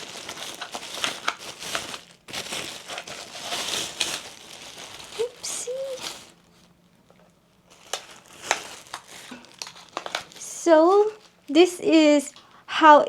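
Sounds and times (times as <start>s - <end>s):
packaging crinkling: 0.0s - 11.4s.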